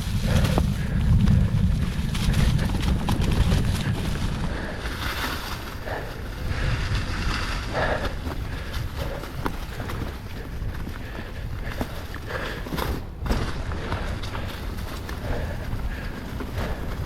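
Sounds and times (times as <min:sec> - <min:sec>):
tyres rolling on dirt: 0:00.0 - 0:17.0
wind buffeting microphone: 0:00.0 - 0:17.0.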